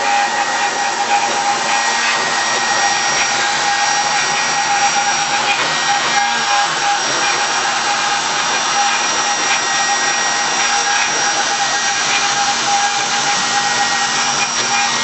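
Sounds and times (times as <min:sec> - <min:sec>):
machine motor whine: 0:00.0 - 0:15.0.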